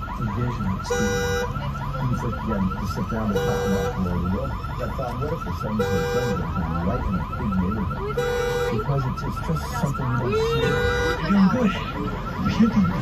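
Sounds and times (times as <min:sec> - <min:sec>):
car alarm warbling chirp: 0:00.0 - 0:13.0
car alarm horn blast: 0:00.3 - 0:05.0, 0:05.6 - 0:13.0.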